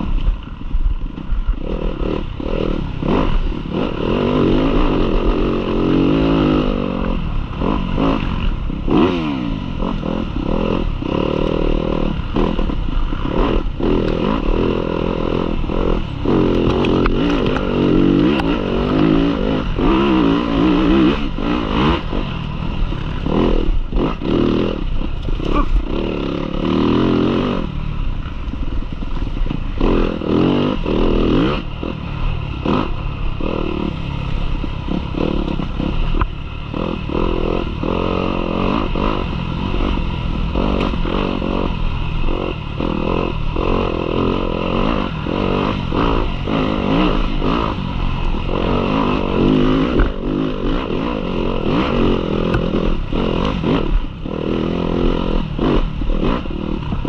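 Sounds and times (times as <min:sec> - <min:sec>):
dirt bike engine revving: 0:01.3 - 0:57.0.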